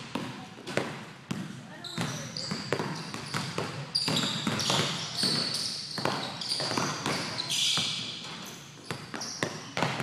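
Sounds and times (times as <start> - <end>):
basketball bouncing on gym floor: 0.0 - 10.0
sneakers squeaking on court: 0.0 - 10.0.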